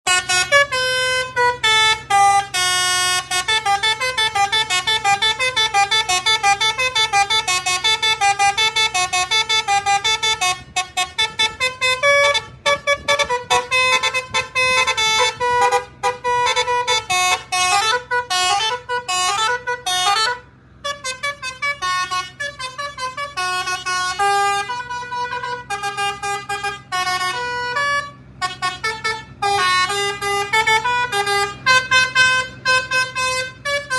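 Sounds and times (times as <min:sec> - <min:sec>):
musical bus horn tune: 0:00.0 - 0:33.9.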